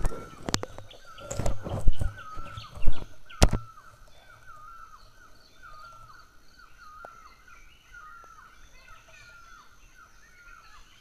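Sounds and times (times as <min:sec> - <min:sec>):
high bird chirps: 0:00.0 - 0:11.0.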